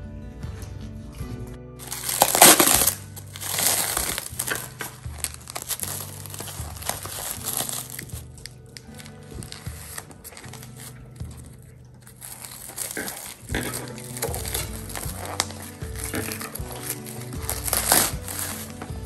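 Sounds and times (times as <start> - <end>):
background music: 0.0 - 19.0
plastic packaging crinkling: 1.8 - 19.0.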